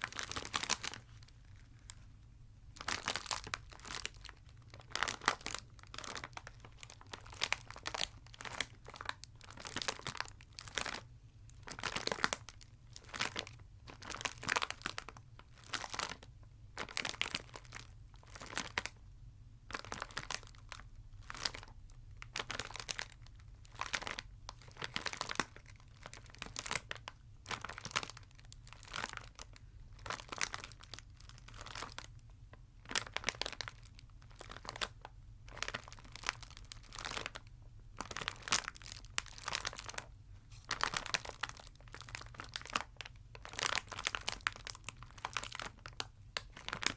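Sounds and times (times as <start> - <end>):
wrappers crinkling: 0.0 - 2.0, 2.8 - 18.9, 19.7 - 32.1, 32.8 - 46.9.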